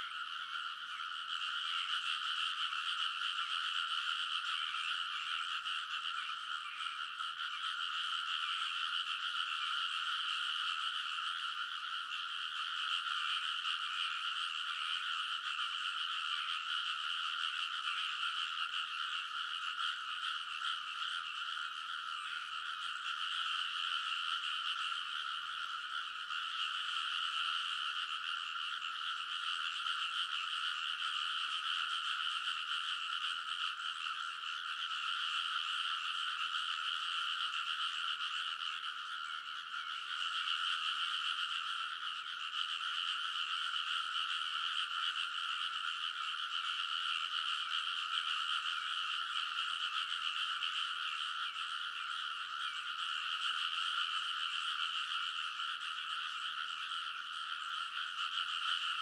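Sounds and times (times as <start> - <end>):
frog chorus calling: 0.0 - 59.0.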